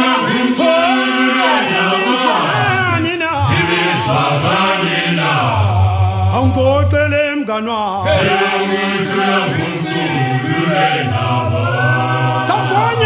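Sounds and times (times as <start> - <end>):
male vocal group singing: 0.0 - 13.0.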